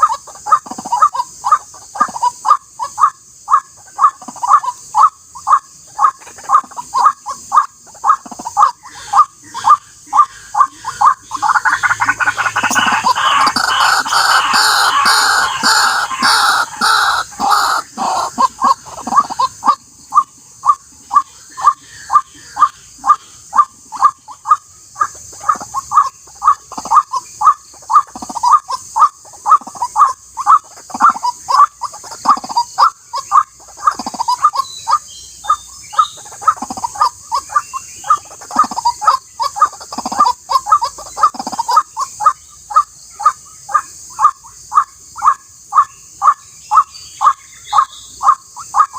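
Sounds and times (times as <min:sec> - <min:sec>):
steady high hiss: 0:00.0 - 0:48.9
waterhen calling: 0:00.0 - 0:48.9.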